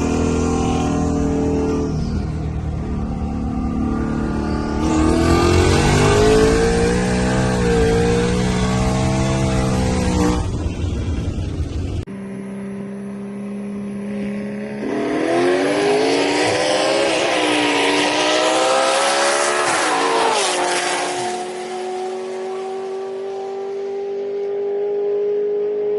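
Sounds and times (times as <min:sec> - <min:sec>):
loud engine rumble: 0:00.0 - 0:24.7
car engine accelerating: 0:00.0 - 0:25.9.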